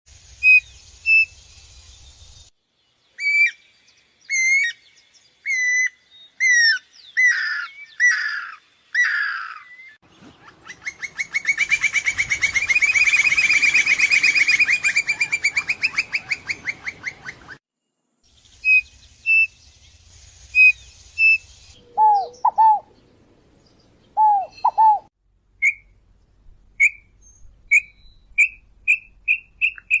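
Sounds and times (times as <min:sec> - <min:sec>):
birds singing and calling: 0:00.6 - 0:17.6, 0:18.3 - 0:25.9.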